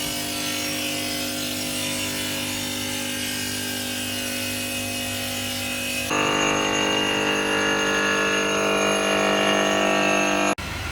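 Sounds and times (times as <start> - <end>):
stone saw whining: 0.0 - 10.6.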